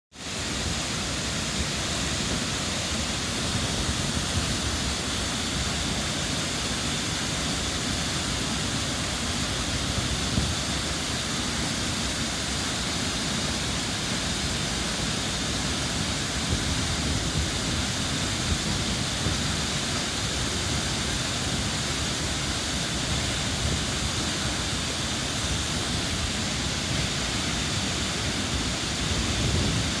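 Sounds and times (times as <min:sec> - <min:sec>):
waterfall rushing: 0:00.2 - 0:30.0.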